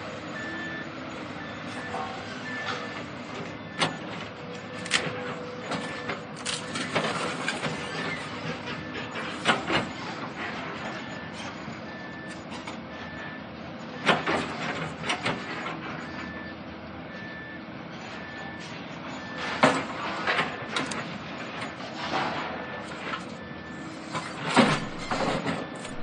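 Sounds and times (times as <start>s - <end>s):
heavy machinery running: 0.0s - 26.0s
reversing alarm beeping: 0.2s - 26.0s.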